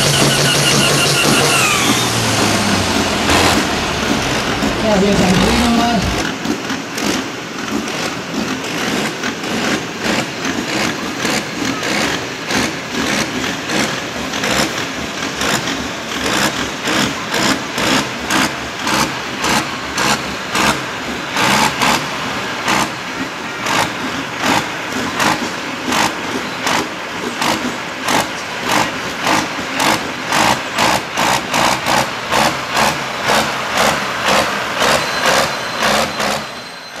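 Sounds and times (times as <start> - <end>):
tractor diesel engine pulsing: 0.0 - 37.0.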